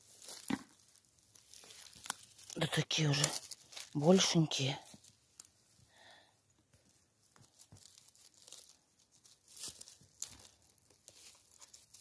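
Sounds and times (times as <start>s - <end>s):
rustling leaf litter and twigs: 0.0s - 12.0s.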